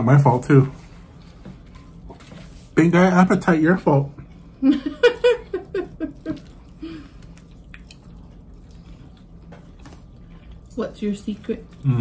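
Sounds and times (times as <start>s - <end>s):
quiet eating at a table: 0.0s - 12.0s.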